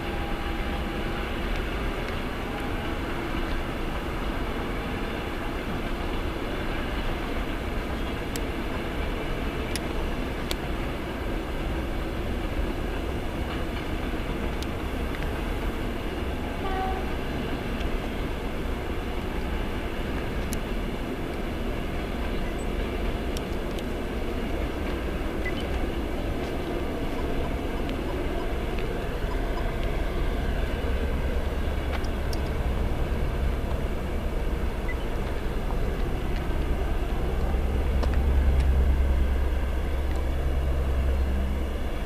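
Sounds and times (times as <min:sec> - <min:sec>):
train wheels rumbling on track: 0:00.0 - 0:42.0.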